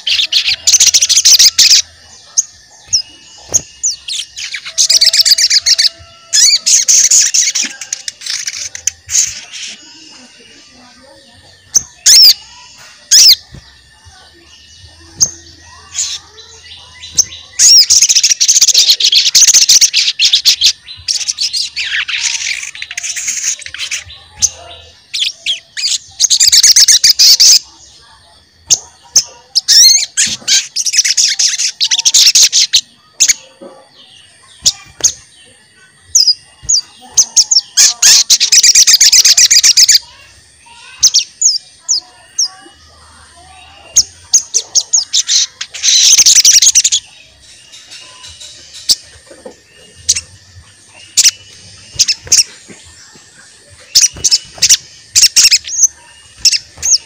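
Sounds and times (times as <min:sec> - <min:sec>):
songbird rapid high chirping: 0:00.0 - 0:57.0.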